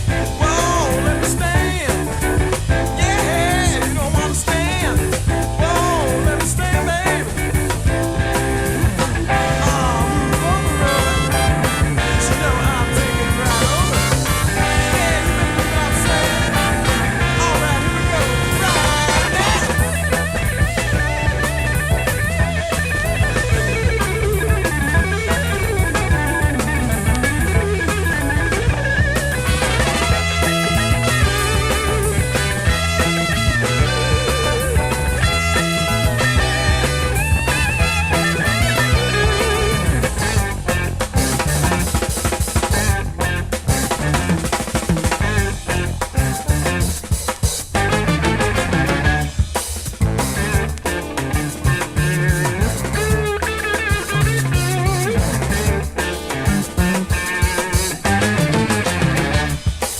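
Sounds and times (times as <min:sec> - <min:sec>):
drum kit beat: 0:00.0 - 0:59.9
rock song with guitar and vocals: 0:00.0 - 0:59.9.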